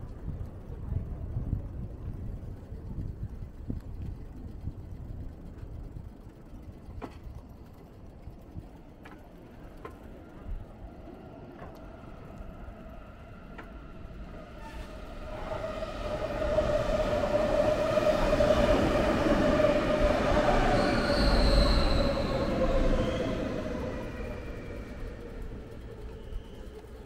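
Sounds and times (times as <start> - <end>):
train passing with whine: 0.0 - 27.0.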